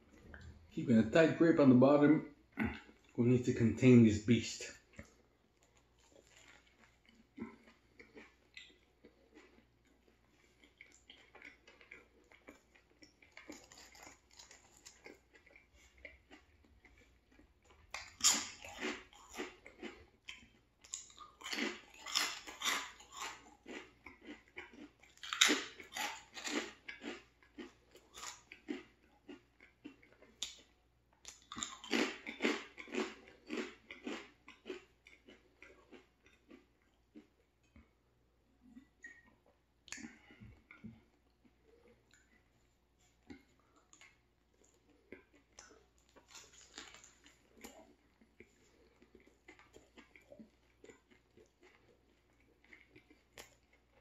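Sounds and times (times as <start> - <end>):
chewing and crunching chips: 0.0 - 54.0.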